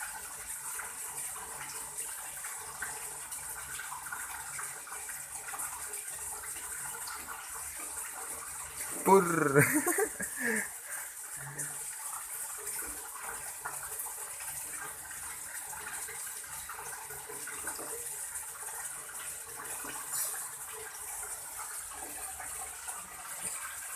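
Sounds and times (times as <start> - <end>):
water running from a tap: 0.0 - 23.9.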